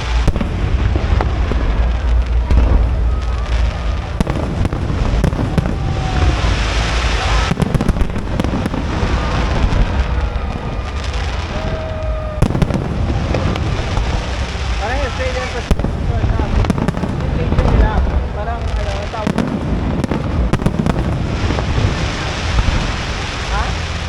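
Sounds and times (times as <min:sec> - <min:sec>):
fireworks booming and crackling: 0:00.0 - 0:24.0
sharp firework bangs: 0:00.0 - 0:24.0.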